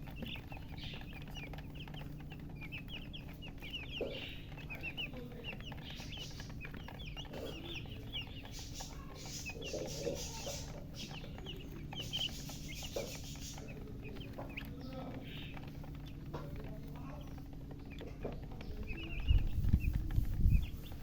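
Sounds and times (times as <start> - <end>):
baby chicks peeping: 0.0 - 21.0
chicken clucks: 0.0 - 21.0
steady low hum: 0.0 - 21.0.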